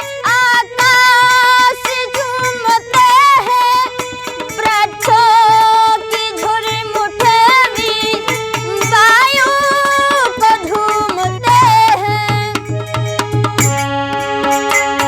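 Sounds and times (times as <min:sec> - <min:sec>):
hand drum beats: 0:00.2 - 0:15.0.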